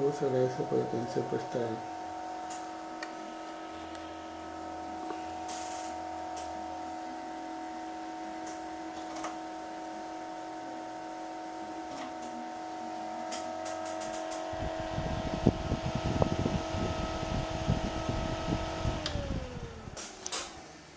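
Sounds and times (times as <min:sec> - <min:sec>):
electric cooling fan hum: 0:00.0 - 0:20.9.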